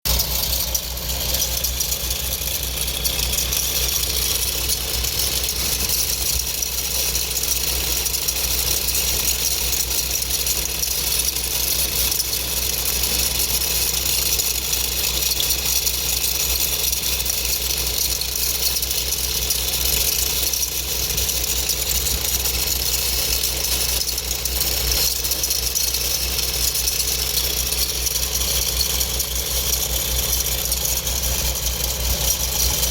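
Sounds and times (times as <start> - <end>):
car engine idling: 0.0 - 32.9
abnormal accessory belt noise: 0.1 - 32.9.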